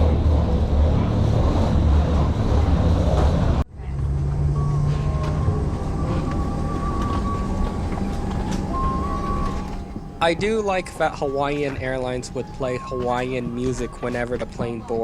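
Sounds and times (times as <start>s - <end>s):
aircraft low rumble: 0.0s - 14.9s.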